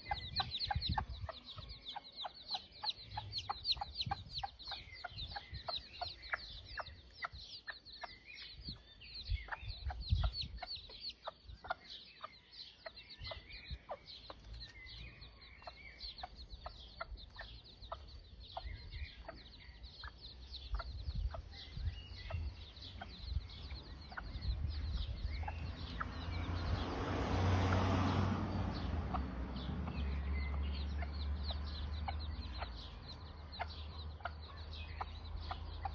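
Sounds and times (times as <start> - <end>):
hen clucking: 0.0 - 27.0, 28.8 - 35.9
chicks peeping: 0.0 - 35.9.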